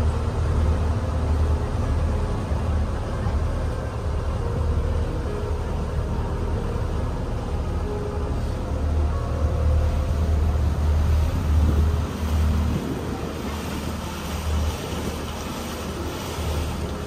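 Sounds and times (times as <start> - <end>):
ferry engine rumble: 0.0 - 17.0
rushing wind and water: 0.0 - 17.0.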